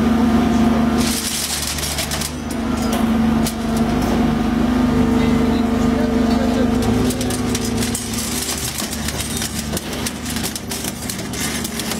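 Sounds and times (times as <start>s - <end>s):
hydraulic machine humming: 0.0s - 11.9s.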